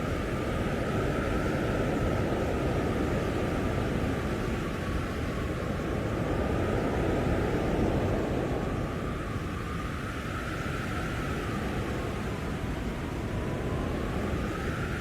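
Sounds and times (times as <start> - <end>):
blizzard wind roaring: 0.0 - 15.0.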